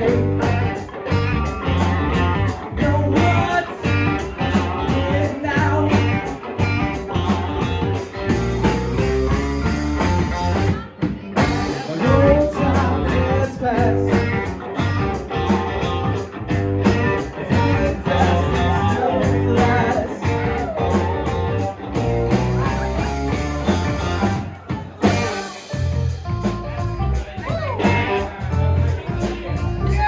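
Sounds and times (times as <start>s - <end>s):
drums keeping steady beat: 0.0s - 30.0s
live rock band playing: 0.0s - 30.0s.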